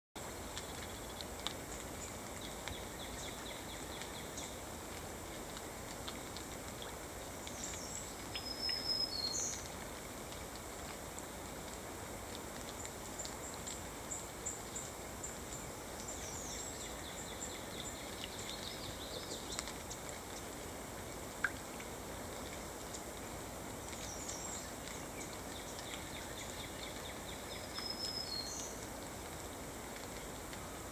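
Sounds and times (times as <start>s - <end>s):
rain falling into a puddle: 0.2s - 30.9s
songbirds chirping: 0.4s - 6.2s, 6.8s - 9.8s, 12.6s - 30.5s.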